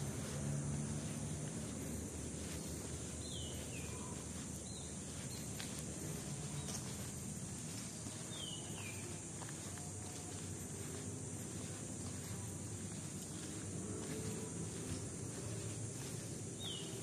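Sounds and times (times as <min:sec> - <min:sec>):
footsteps on wet pavement: 0:00.0 - 0:17.0
high insect drone: 0:00.0 - 0:17.0.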